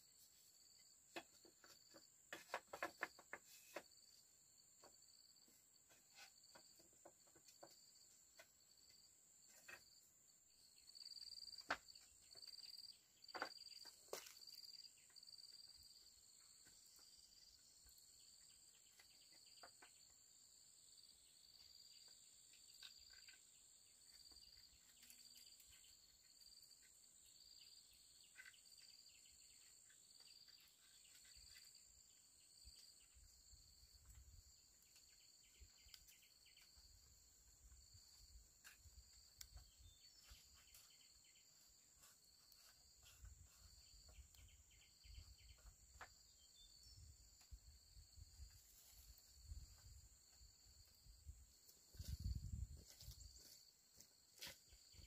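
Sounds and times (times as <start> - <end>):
crickets droning: 0.0 - 55.0
insect chirp: 0.0 - 55.0.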